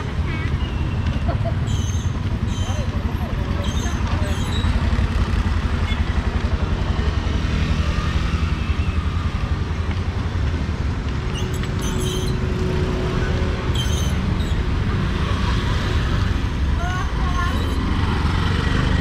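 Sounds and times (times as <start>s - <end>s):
passing motor vehicles rumble: 0.0s - 19.0s.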